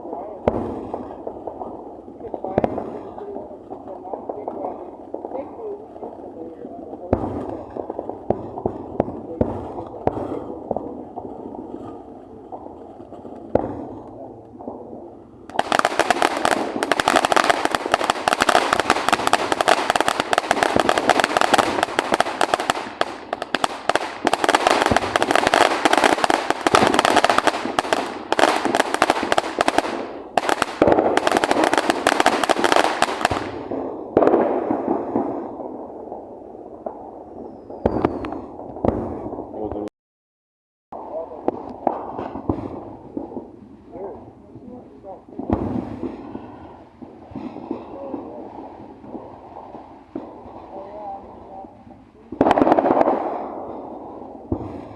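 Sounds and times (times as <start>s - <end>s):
fireworks crackling pops: 0.0s - 39.9s, 41.0s - 54.9s.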